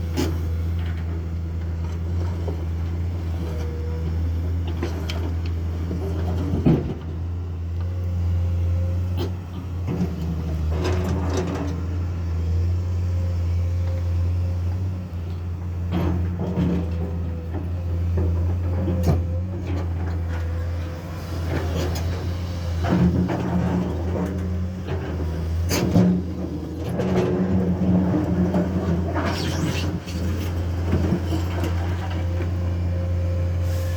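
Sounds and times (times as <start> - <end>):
excavator diesel engine running: 0.0 - 29.3, 30.6 - 33.9.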